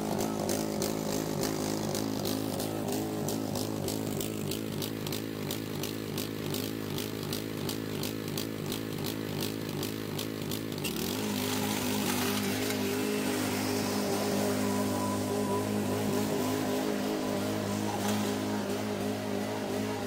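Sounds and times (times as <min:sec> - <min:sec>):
riding lawn mower engine running: 0:00.0 - 0:20.0.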